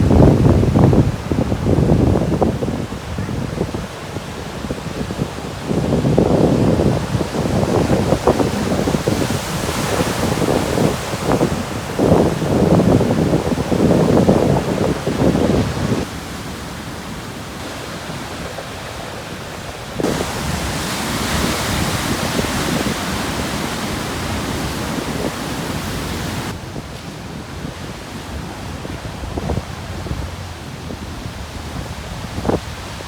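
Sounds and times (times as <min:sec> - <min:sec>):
waves crashing on rocky shore: 0:00.0 - 0:33.0.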